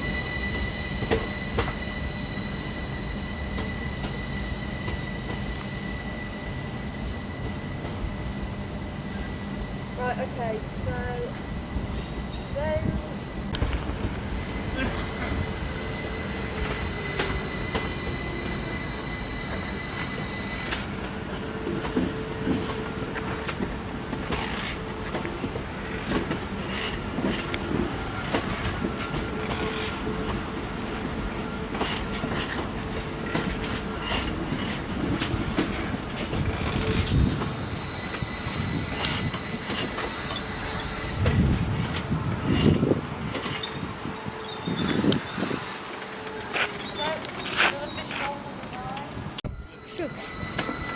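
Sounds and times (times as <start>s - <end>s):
train rumble: 0.0s - 50.9s
train wheel squeal: 0.0s - 50.9s.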